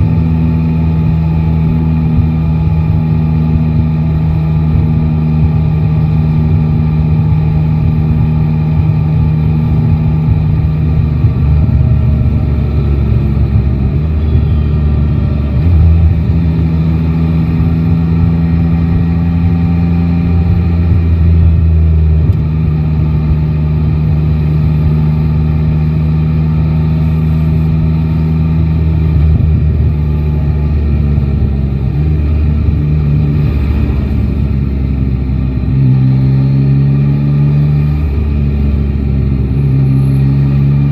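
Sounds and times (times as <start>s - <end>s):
motorcycle engine revving: 0.0s - 40.9s
road and wind rumble: 0.0s - 40.9s.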